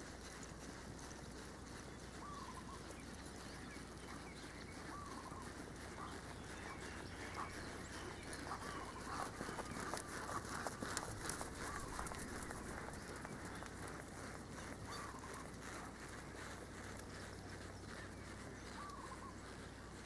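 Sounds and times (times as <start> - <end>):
faint outdoor background: 0.0 - 20.0
bird calling: 2.1 - 15.6, 17.2 - 20.0.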